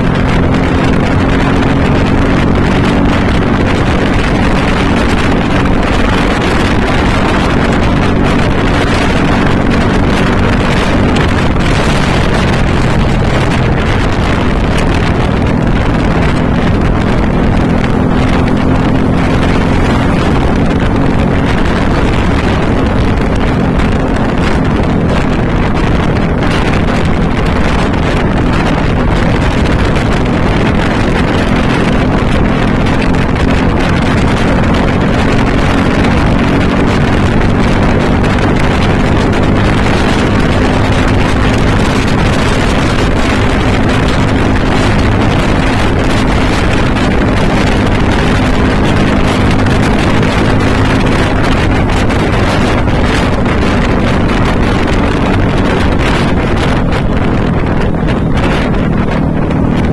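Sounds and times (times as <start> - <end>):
motorcycle engine cruising: 0.0 - 59.9
wind buffeting microphone: 0.0 - 59.9.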